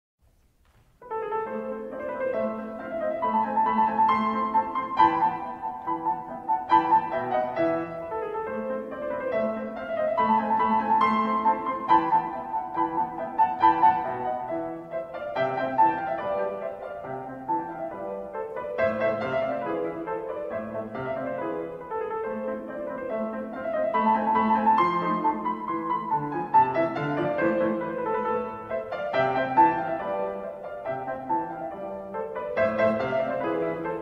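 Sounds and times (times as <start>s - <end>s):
slow classical piano piece: 0.2s - 34.0s.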